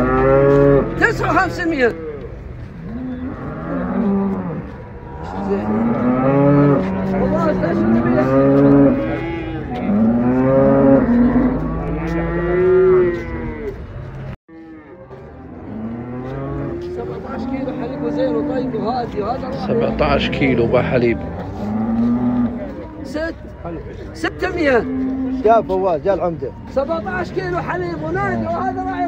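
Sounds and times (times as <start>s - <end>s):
cattle mooing: 0.0s - 13.9s, 14.5s - 22.9s, 24.2s - 25.6s.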